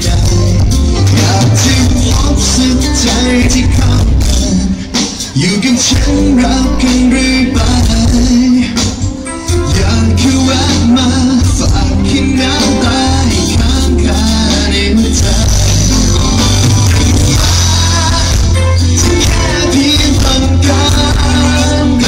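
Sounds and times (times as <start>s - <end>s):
men singing: 0.0s - 9.0s, 9.6s - 22.0s
pop-rock band playing: 0.0s - 22.0s.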